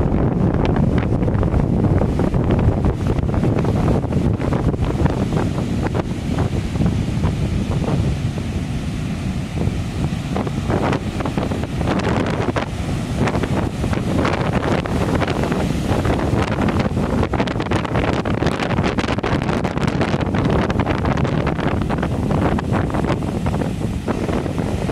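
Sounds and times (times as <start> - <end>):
ocean surf breaking: 0.0 - 24.9
wind buffeting microphone: 0.0 - 24.9.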